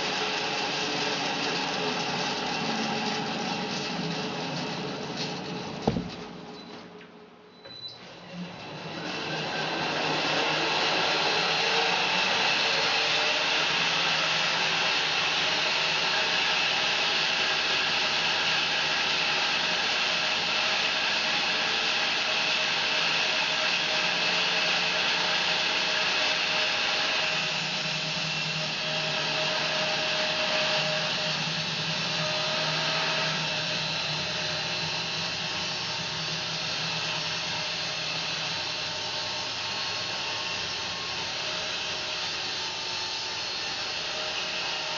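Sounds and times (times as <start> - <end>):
bandsaw mill sawing log: 0.0 - 6.4, 8.3 - 44.9.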